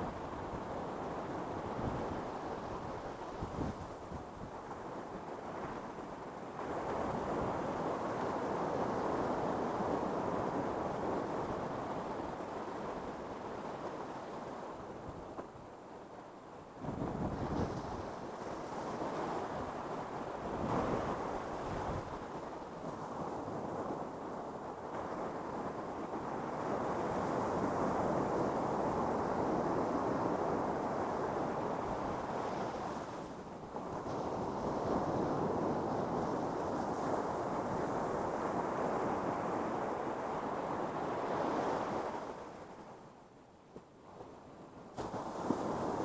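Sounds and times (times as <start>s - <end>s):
ocean waves breaking on beach: 0.0s - 43.3s, 44.1s - 46.0s.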